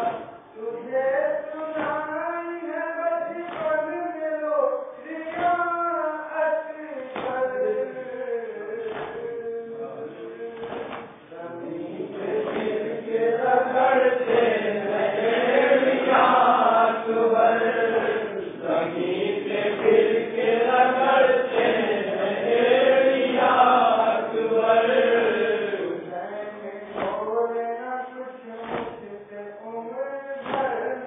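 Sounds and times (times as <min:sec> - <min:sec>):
dull beat: 0:00.0 - 0:00.9, 0:01.6 - 0:04.2, 0:05.1 - 0:27.6, 0:28.6 - 0:29.1, 0:30.4 - 0:31.0
men chanting a lament: 0:00.0 - 0:31.0.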